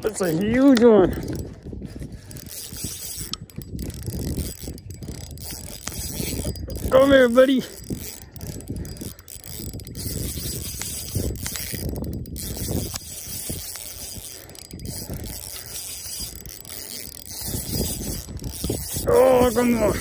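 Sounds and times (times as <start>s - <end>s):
fishing reel whirring: 0.0s - 20.0s
reel clicks: 0.0s - 20.0s.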